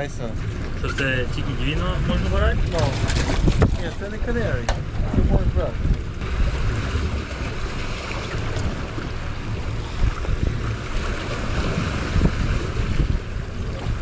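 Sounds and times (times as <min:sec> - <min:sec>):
waves washing against boat hull: 0:00.0 - 0:14.0
wind buffeting microphone: 0:00.0 - 0:14.0.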